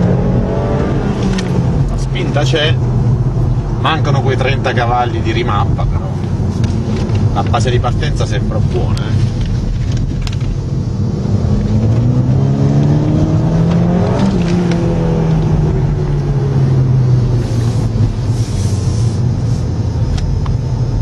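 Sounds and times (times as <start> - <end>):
car engine accelerating: 0.0 - 21.0
road noise: 0.0 - 21.0.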